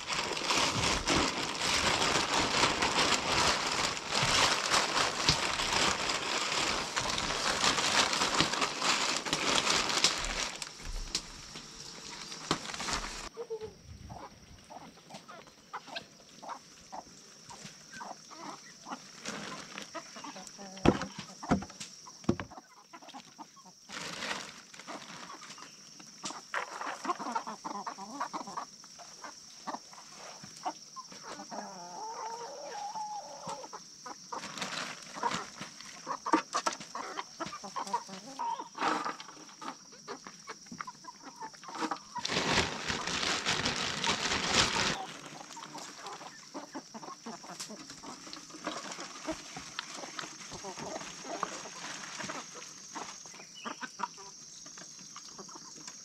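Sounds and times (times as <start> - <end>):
chickens clucking: 0.0 - 10.6, 12.0 - 24.0, 24.8 - 56.0.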